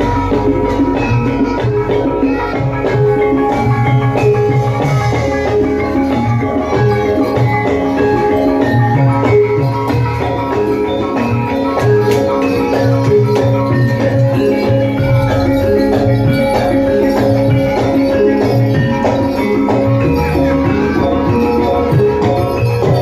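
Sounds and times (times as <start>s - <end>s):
gongs ringing: 0.0s - 23.0s
metallophones ringing: 0.0s - 23.0s.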